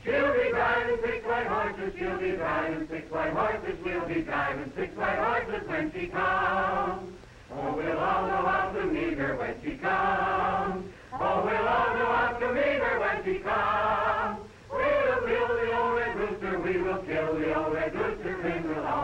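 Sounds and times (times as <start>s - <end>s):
group of voices singing: 0.0s - 19.0s.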